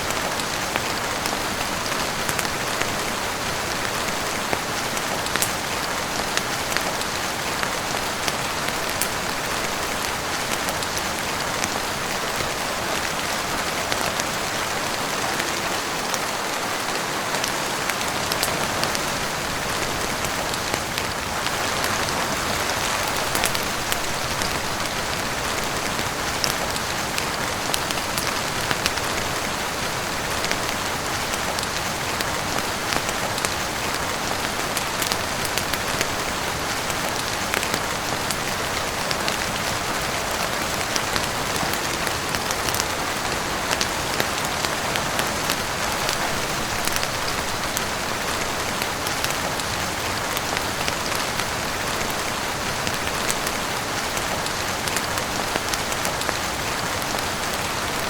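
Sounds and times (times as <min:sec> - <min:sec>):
heavy rain on roof and windows: 0:00.0 - 0:58.0.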